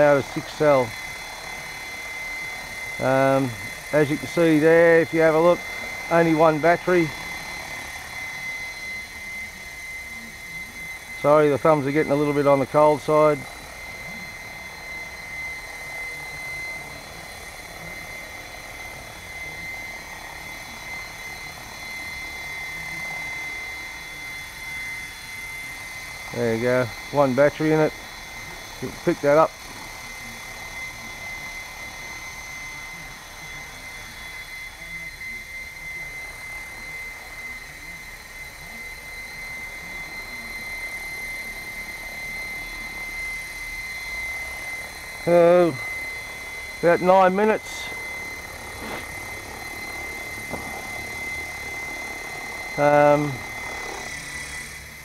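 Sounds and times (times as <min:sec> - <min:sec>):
helicopter rotor whir: 0:00.0 - 0:55.0
high motor whine: 0:00.0 - 0:55.0.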